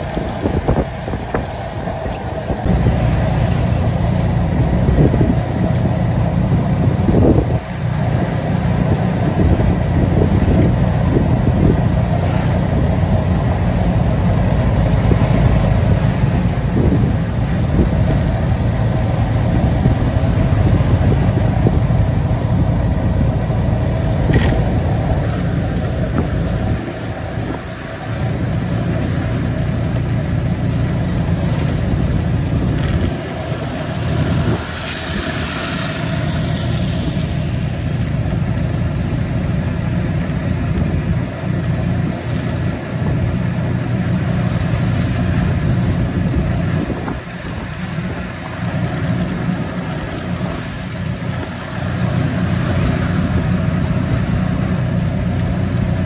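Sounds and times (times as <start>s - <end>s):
motor vehicle engine rumbling: 0.0s - 56.0s.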